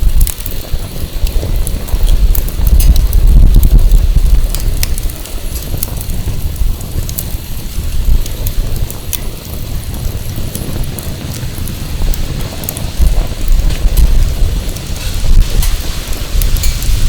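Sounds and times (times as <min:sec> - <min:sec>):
firewood crackling: 0:00.0 - 0:17.0
wind buffeting microphone: 0:00.0 - 0:17.0.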